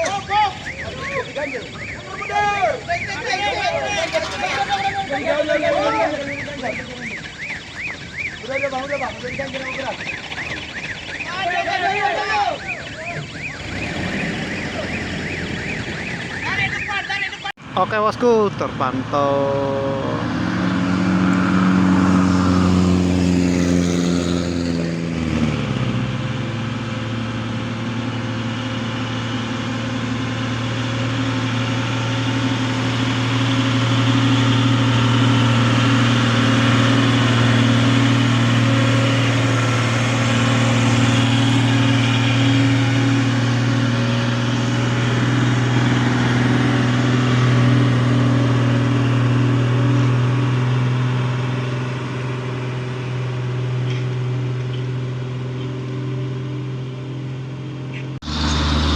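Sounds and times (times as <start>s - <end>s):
truck engine running under load: 0.0s - 16.8s, 20.6s - 58.9s.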